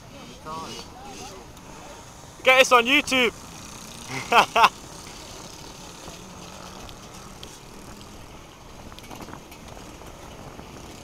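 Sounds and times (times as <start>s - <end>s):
outdoor background noise: 0.0s - 11.0s
vehicle engine running: 0.9s - 11.0s.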